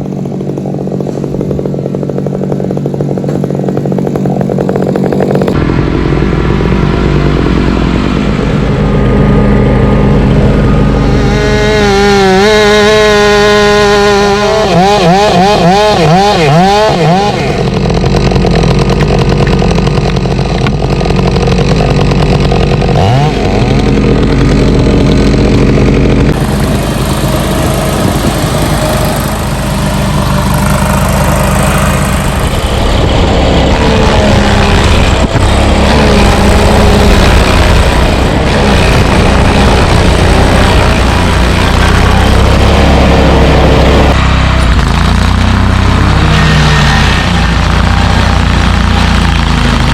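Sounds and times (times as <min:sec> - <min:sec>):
machine engine running loudly: 0:00.0 - 0:49.9.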